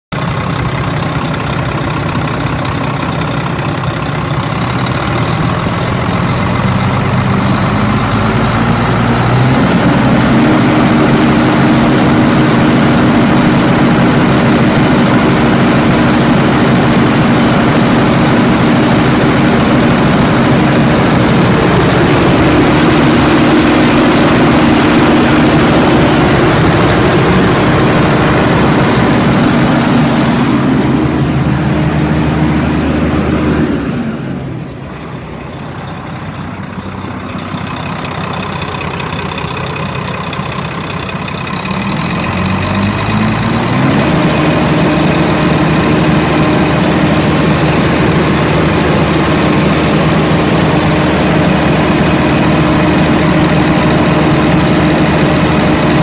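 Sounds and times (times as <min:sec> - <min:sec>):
diesel truck engine running: 0:00.1 - 0:56.0.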